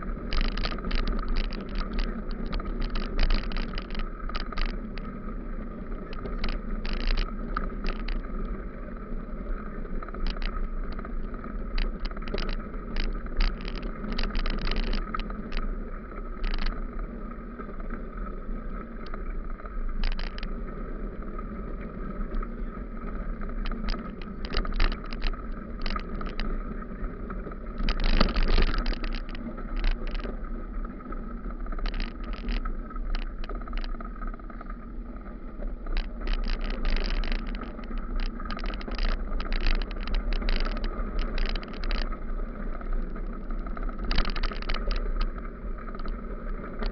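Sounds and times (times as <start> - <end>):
bicycle rolling over gravel: 0.0 - 46.9.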